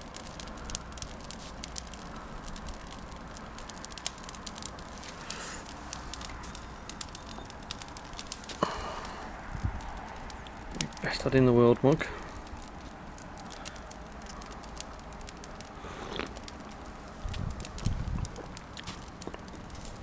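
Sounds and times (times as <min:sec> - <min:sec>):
low steady hiss: 0:00.0 - 0:20.0
wood fire crackling and popping: 0:00.0 - 0:20.0.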